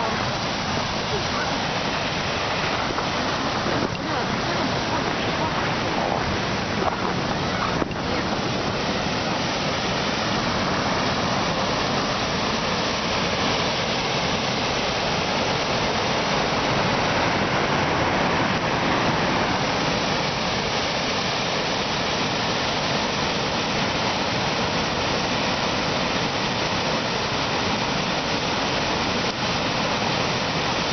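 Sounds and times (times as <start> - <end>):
waterfall roaring over rocks: 0.0 - 30.9.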